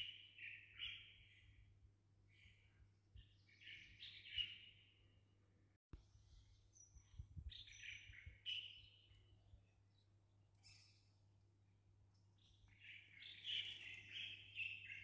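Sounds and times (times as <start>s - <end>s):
small birds chirping: 0.0s - 1.7s, 2.3s - 5.1s, 6.1s - 11.4s, 12.0s - 15.0s.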